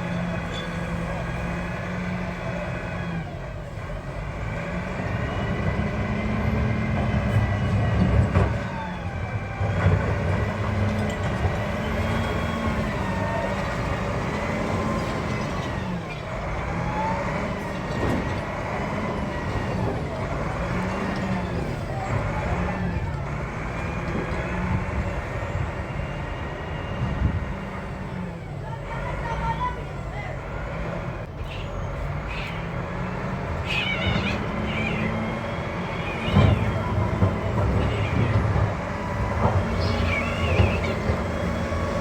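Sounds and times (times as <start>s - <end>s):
heavy diesel engine revving: 0.0s - 42.0s.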